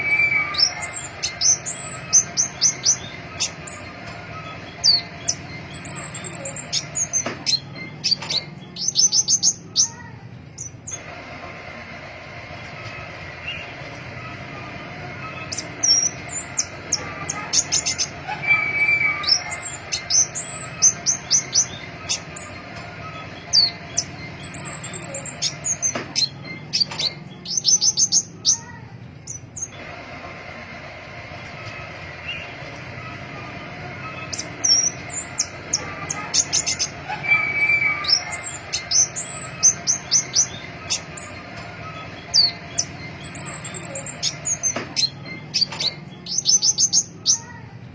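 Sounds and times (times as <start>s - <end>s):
flowerpecker high chirps: 0.0s - 11.0s, 15.2s - 29.7s, 34.0s - 47.6s.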